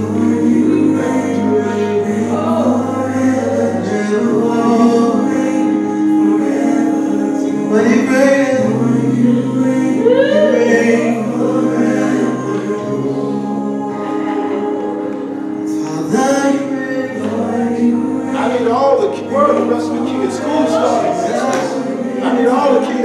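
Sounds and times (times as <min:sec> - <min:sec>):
choir and congregation singing: 0:00.0 - 0:23.0
instrumental backing: 0:00.0 - 0:23.0.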